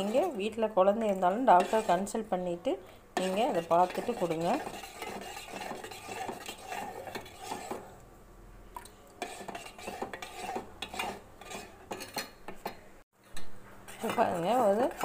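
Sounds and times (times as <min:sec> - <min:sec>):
metal spoon stirring in pot: 0:00.0 - 0:02.6, 0:03.2 - 0:08.0, 0:09.2 - 0:12.9, 0:13.8 - 0:15.0.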